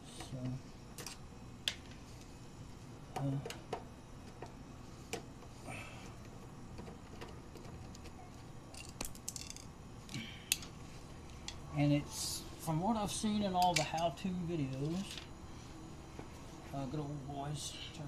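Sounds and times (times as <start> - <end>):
refrigerator humming: 0.0 - 18.0.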